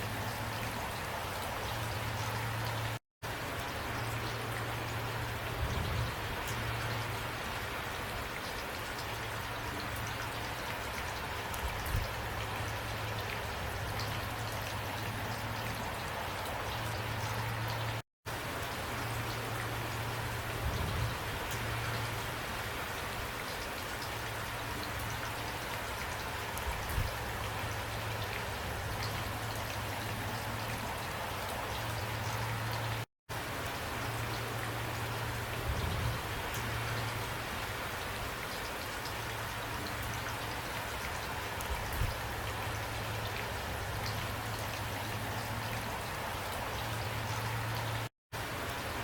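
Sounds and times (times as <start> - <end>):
steady rain hiss: 0.0 - 49.0.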